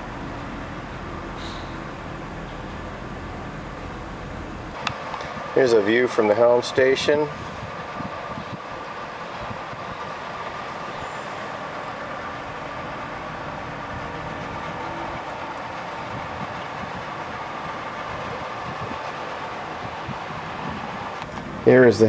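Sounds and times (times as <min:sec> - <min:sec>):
steady rushing noise: 0:02.0 - 0:22.0.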